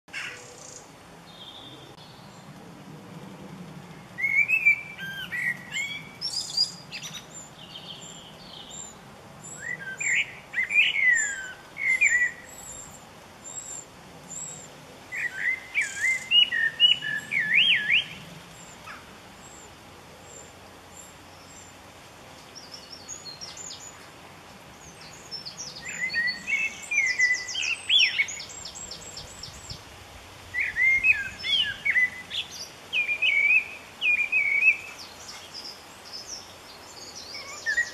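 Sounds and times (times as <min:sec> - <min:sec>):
wren singing: 0:04.1 - 0:24.1, 0:24.7 - 0:29.9, 0:30.6 - 0:37.9.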